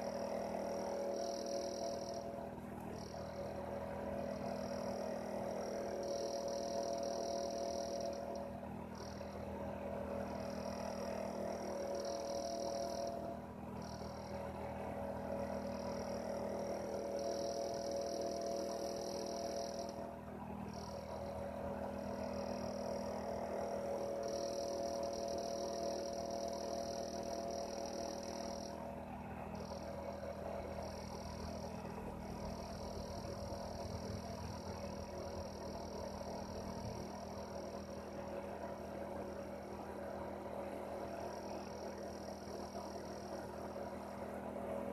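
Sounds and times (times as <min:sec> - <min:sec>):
heater humming and hissing: 0:00.0 - 0:44.9.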